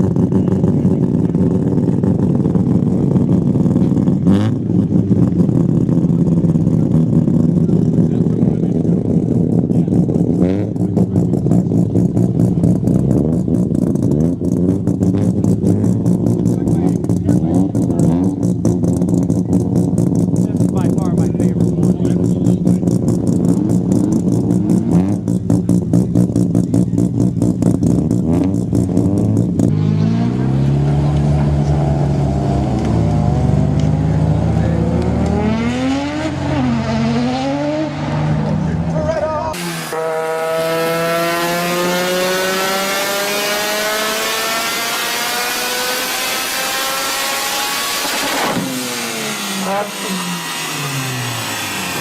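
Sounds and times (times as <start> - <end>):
rotary engine pulsing exhaust: 0.0 - 52.0.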